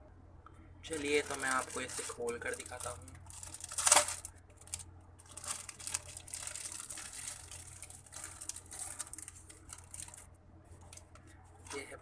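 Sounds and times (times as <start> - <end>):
plastic packaging crinkling: 0.9 - 12.0.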